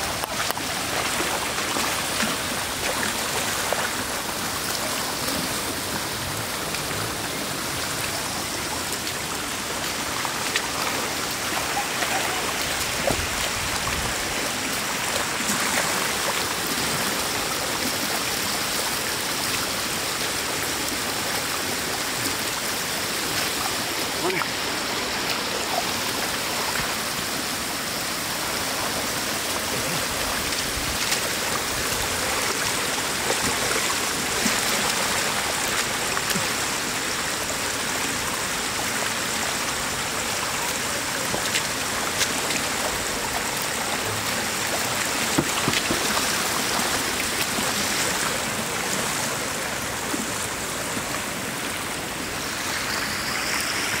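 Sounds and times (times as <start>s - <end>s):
floodwater rushing over edge: 0.0s - 54.0s.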